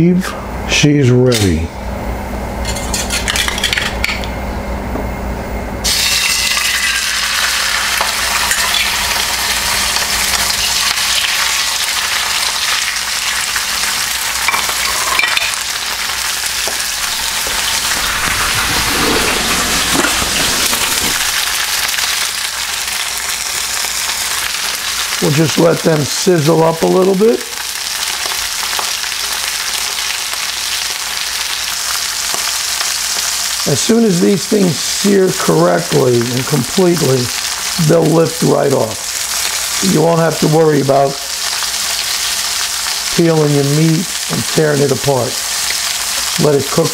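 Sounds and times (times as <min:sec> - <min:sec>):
fish frying in oil: 0:05.8 - 0:46.9.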